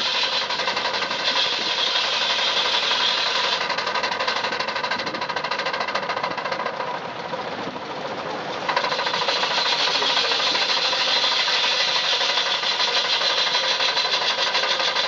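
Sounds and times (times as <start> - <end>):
saw cutting wood: 0.0 - 6.8, 8.6 - 15.0
rapid mechanical clatter: 0.0 - 15.0.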